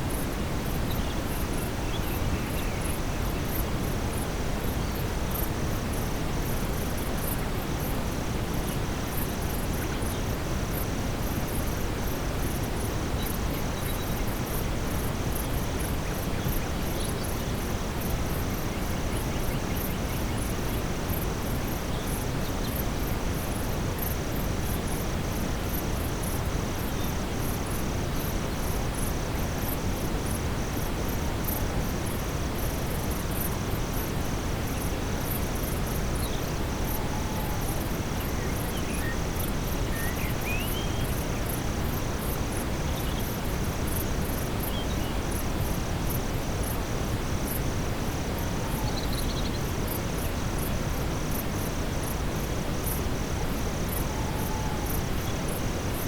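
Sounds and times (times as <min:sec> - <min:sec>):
brown noise hiss: 0:00.0 - 0:56.0
night insects chirping: 0:00.0 - 0:56.0.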